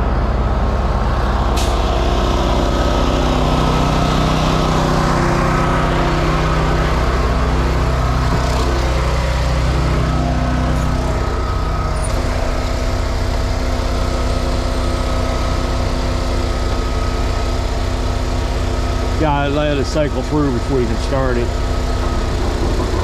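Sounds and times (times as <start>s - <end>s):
generator engine rumbling: 0.0s - 23.0s.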